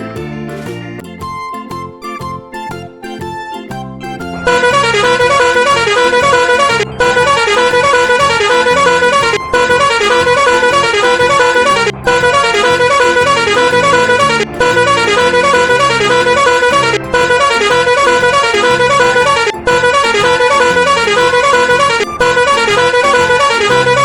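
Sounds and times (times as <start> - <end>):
horn-like honking: 4.3 - 24.0.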